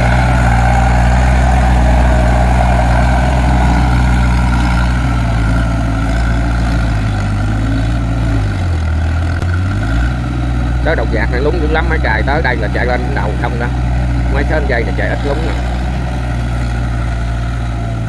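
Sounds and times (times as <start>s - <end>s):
harvester engine running: 0.0s - 18.0s
tiller working mud: 0.0s - 18.0s.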